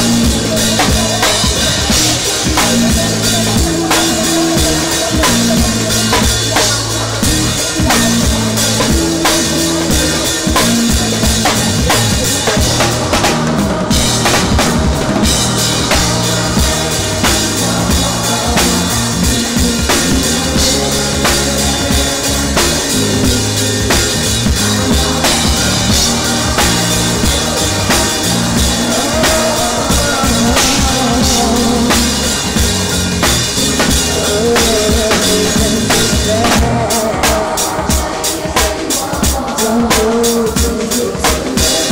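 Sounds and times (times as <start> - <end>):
bass line: 0.0 - 41.9
drum kit beat: 0.0 - 41.9
live band playing r and b: 0.0 - 41.9.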